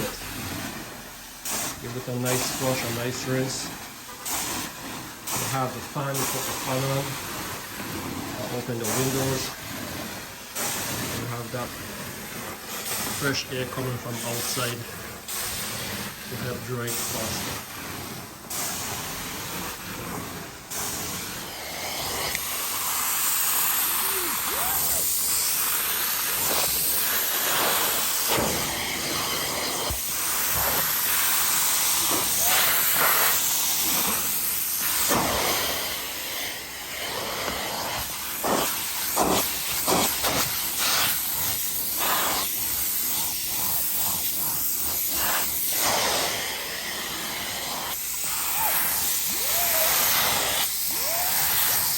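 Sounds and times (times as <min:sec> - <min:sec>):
vacuum hose hissing: 0:00.0 - 0:51.9.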